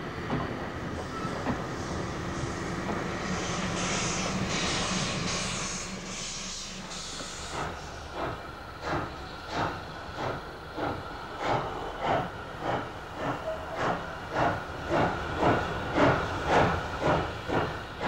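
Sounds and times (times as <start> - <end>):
steady hiss of steam: 0.9 - 18.0
steam locomotive exhaust chuffs: 1.2 - 18.0.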